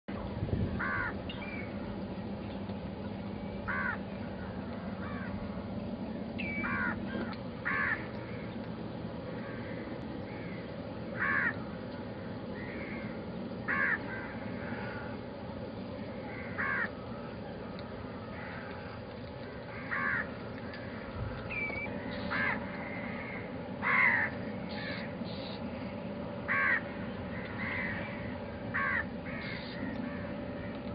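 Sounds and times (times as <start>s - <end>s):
steady background noise: 0.1s - 30.9s
bird calling: 0.7s - 30.9s.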